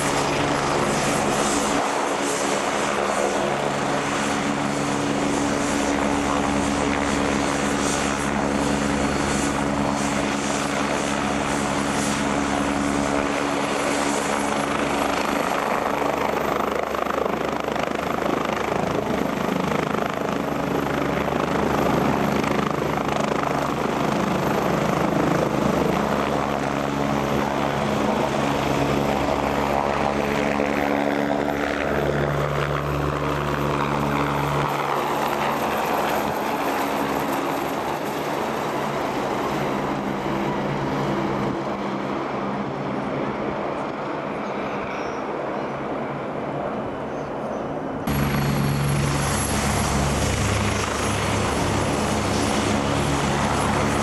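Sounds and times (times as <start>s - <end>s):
helicopter rotor beat: 0.0s - 54.0s
high turbine whine: 0.0s - 54.0s.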